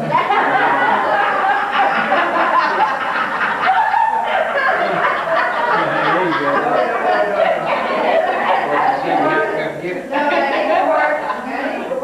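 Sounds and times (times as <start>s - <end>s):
people laughing together: 0.0s - 12.0s.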